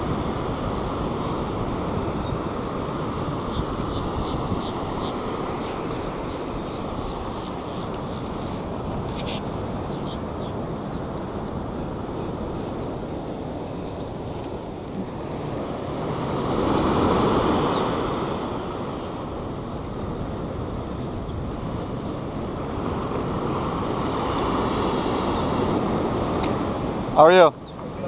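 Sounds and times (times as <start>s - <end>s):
wind buffeting microphone: 0.0s - 27.2s
ocean surf breaking: 0.0s - 28.0s.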